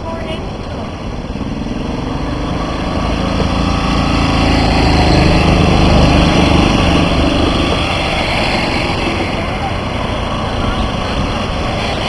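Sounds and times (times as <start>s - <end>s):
golf cart engines passing: 0.0s - 12.0s.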